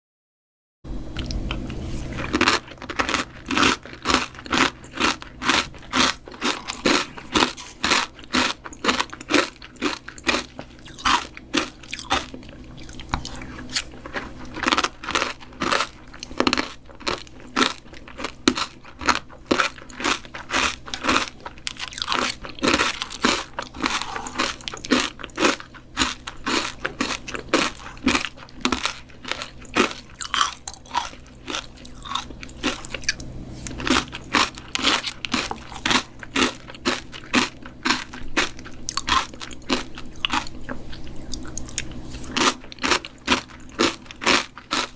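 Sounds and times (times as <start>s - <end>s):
person chewing with crisp crunching: 1.2s - 44.9s.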